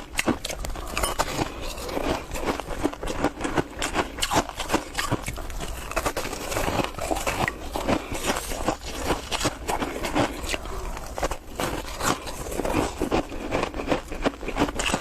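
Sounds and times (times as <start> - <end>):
ice crunching while chewed: 0.0 - 15.0.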